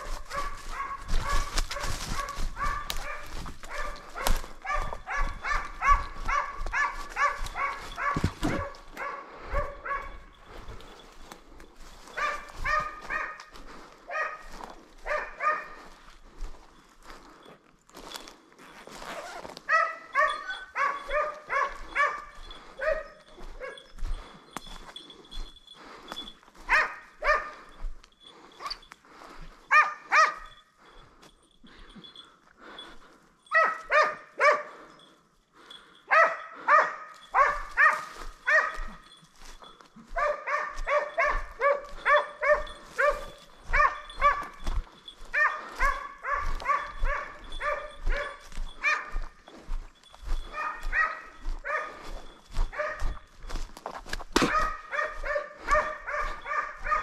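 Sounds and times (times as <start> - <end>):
hound baying: 0.0 - 17.4, 19.1 - 57.0.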